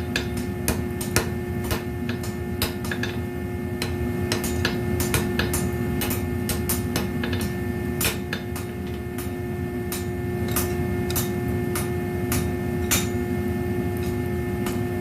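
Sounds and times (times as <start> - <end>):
hammer striking metal on anvil: 0.0 - 13.4, 14.0 - 15.0
steady hum: 0.0 - 15.0.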